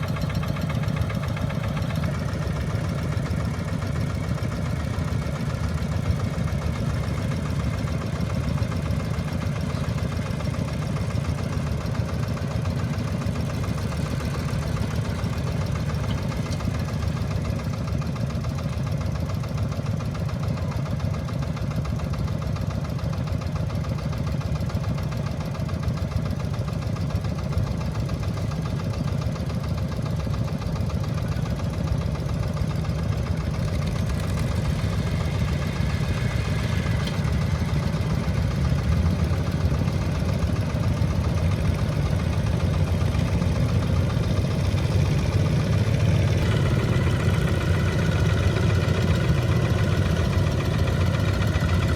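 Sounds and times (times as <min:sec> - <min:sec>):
diesel engine knocking: 0:00.0 - 0:51.9.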